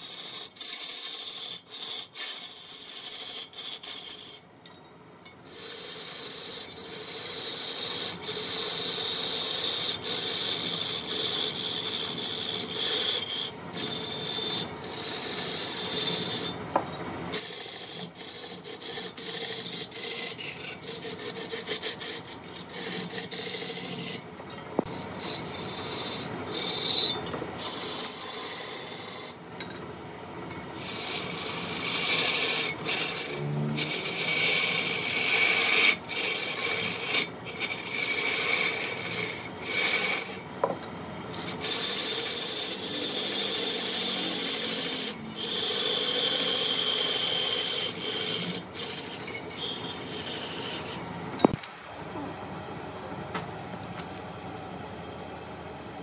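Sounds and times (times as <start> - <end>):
chisel cutting spinning wood: 0.0 - 4.5, 5.4 - 29.4, 30.7 - 51.6.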